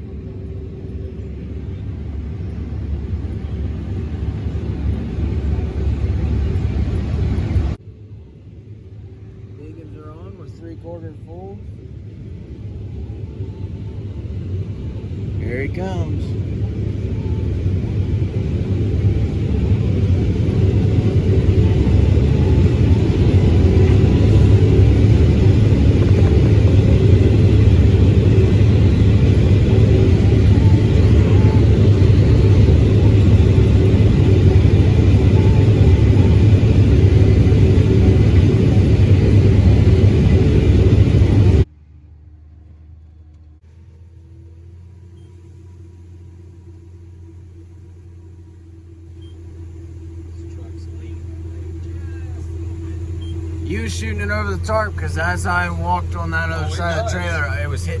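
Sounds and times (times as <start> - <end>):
combine harvester rumbling: 0.0 - 58.0.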